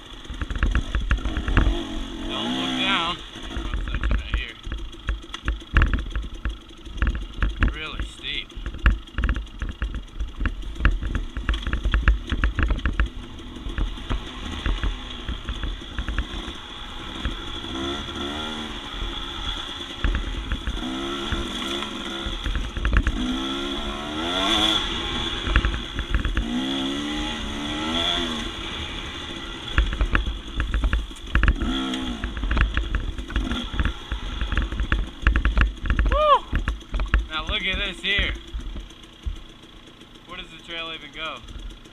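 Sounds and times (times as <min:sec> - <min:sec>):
dirt bike engine revving: 0:00.0 - 0:41.9
bike clattering over rough ground: 0:00.2 - 0:01.8, 0:02.8 - 0:27.6, 0:29.3 - 0:40.0.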